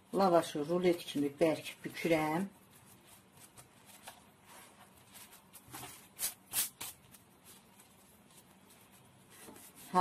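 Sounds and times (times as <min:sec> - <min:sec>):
flatbread rustling and crinkling: 0:00.1 - 0:10.0.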